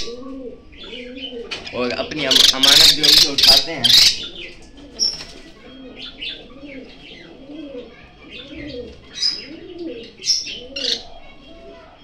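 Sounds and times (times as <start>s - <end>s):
low repeated cooing: 0.0s - 12.0s
small birds chirping: 0.0s - 12.0s.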